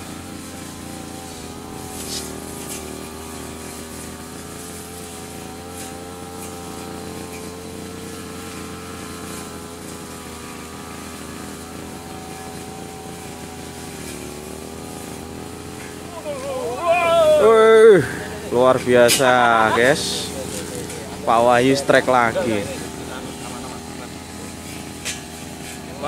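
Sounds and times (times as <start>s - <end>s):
motor running steadily: 0.0s - 26.0s.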